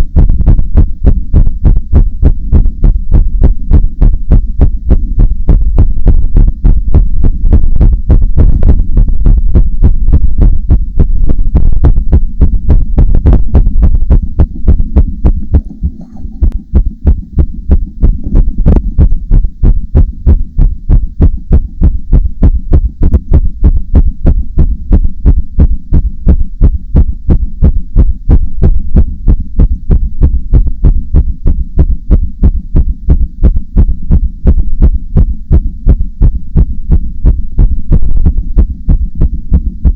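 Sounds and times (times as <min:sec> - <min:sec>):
amplified heartbeat: 0:00.0 - 0:39.9
low hum: 0:00.0 - 0:39.9.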